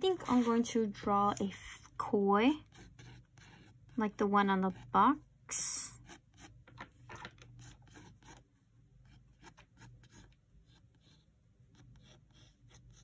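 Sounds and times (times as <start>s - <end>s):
pencil sketching on paper: 0.0s - 6.7s, 7.4s - 13.0s.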